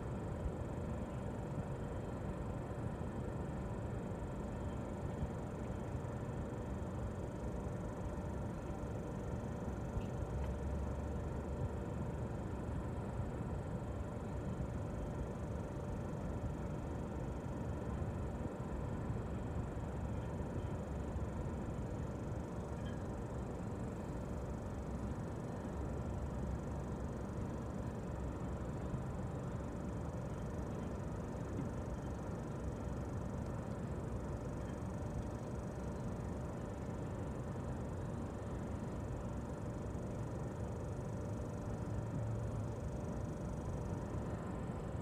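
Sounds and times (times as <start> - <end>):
faint even hum: 0.0 - 45.0.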